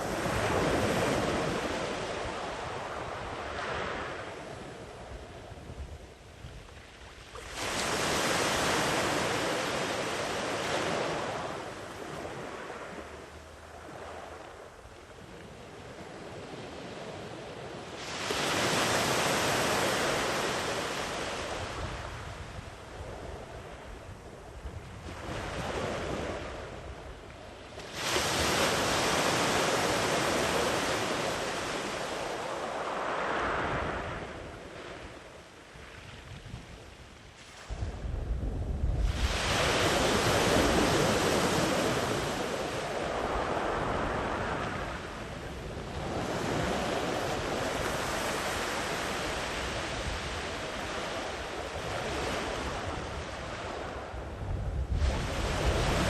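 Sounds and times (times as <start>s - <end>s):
sea waves crashing on beach: 0.0s - 5.4s, 7.2s - 23.8s, 27.6s - 36.2s, 39.0s - 56.0s
wind on microphone: 0.0s - 56.0s.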